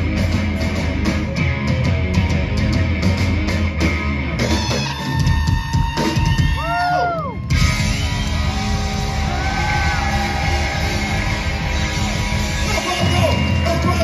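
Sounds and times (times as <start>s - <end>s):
bass guitar: 0.0s - 14.0s
drums: 0.0s - 14.0s
electric guitar: 0.0s - 14.0s.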